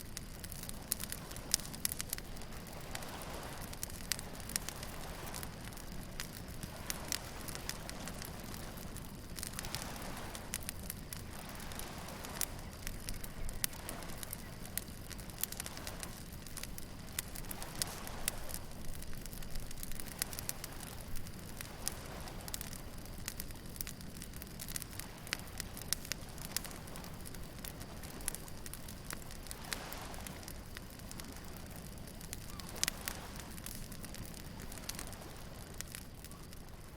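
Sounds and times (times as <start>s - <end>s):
waves washing: 0.0s - 36.0s
bonfire crackling and popping: 0.0s - 36.9s.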